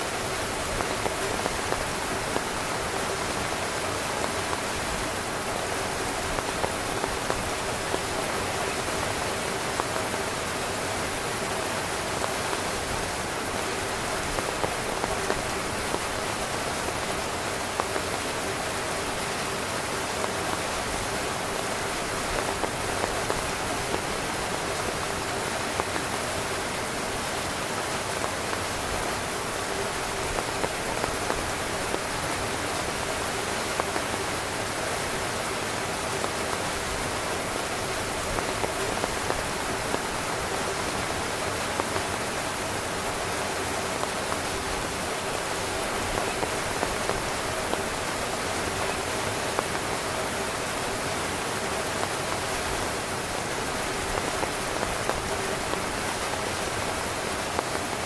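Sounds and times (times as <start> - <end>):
heavy rain drumming on tent fabric: 0.0 - 58.0.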